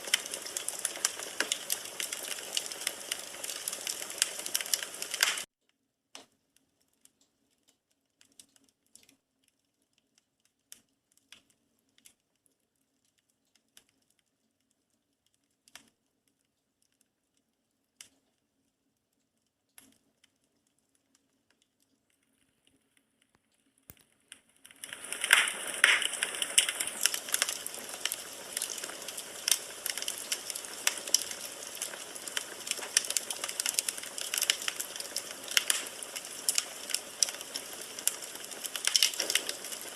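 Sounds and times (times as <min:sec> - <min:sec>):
fire crackling and popping: 0:00.0 - 0:05.5, 0:06.1 - 0:17.1, 0:19.7 - 0:39.9.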